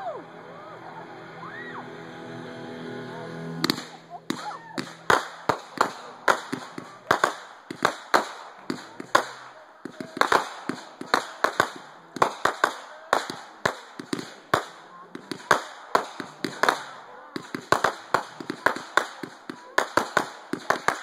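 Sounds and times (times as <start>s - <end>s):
fireworks crackling: 3.0s - 21.0s
fireworks bangs and pops: 3.6s - 21.0s.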